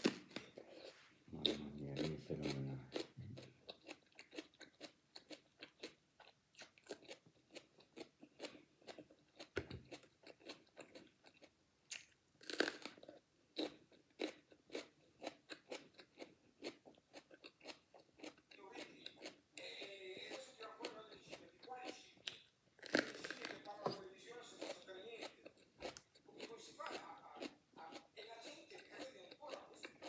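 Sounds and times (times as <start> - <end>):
crunchy chewing of peppers: 0.0 - 30.0.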